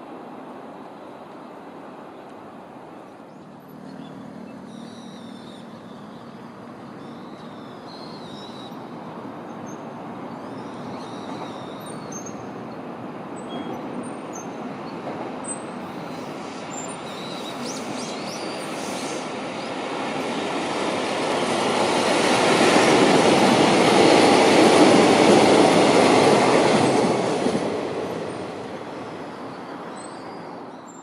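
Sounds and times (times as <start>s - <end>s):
freight train passing: 0.0s - 31.0s.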